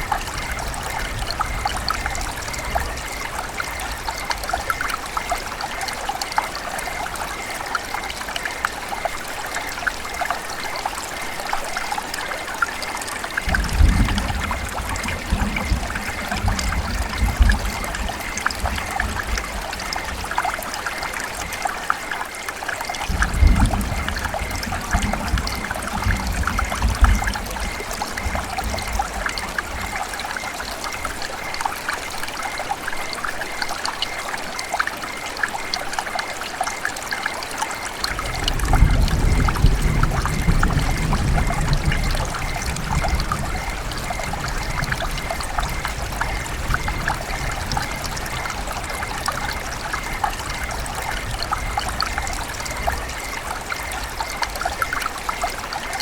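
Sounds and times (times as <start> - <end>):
river water running over stones: 0.0 - 56.0.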